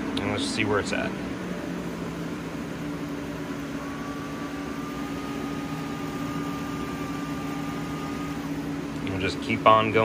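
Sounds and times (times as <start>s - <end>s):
duct fan running: 0.0s - 10.0s
high whine: 0.0s - 10.0s.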